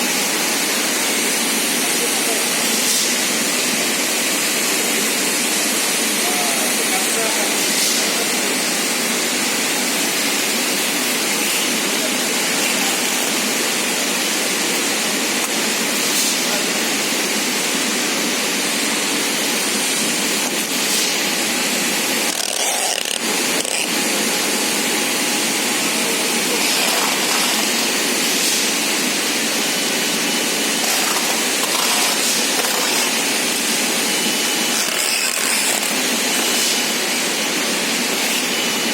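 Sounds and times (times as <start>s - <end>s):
production line running: 0.0s - 38.9s.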